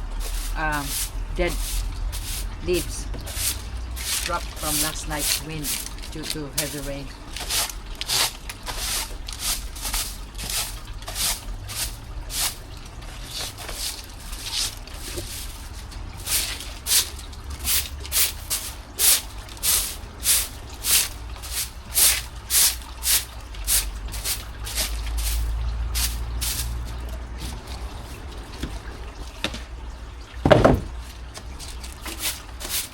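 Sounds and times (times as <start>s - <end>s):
broom sweeping leaves: 0.0s - 27.7s, 31.6s - 32.9s.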